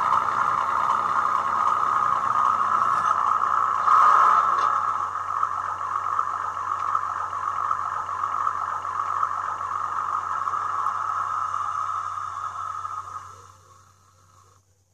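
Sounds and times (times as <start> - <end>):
model train engine idle hum: 0.0 - 14.9.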